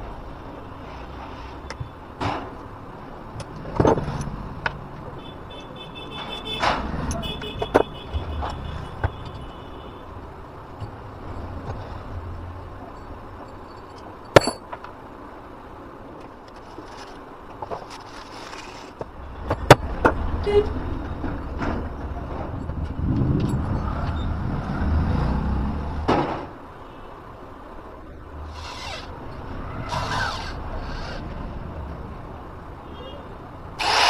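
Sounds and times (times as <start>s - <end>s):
background traffic noise: 0.0s - 34.0s.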